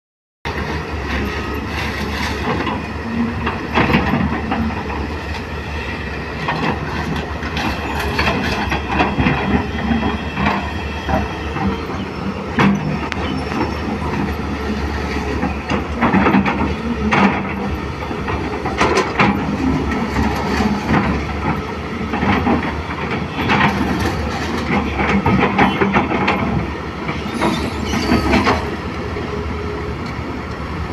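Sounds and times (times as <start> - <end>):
excavator diesel engine: 0.5 - 30.9.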